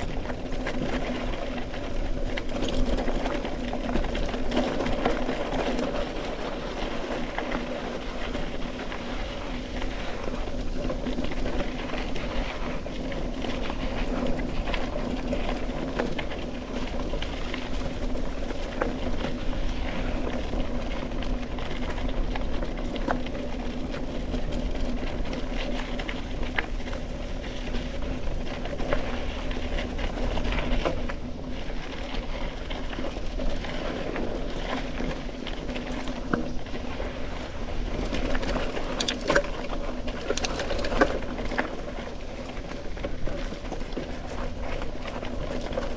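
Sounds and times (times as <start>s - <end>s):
bike rattles and clicks: 0.0s - 45.9s
bike tyres humming on dirt: 0.0s - 45.9s
wind rumble on microphone: 0.0s - 45.9s.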